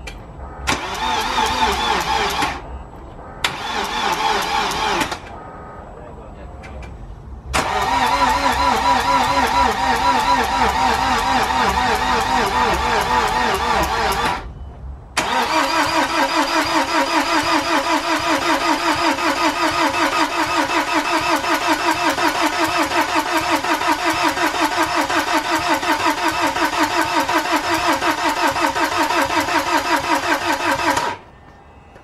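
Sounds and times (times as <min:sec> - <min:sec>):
starter motor cranking engine: 0:00.7 - 0:02.6, 0:03.4 - 0:05.3, 0:07.5 - 0:14.5, 0:15.2 - 0:31.2.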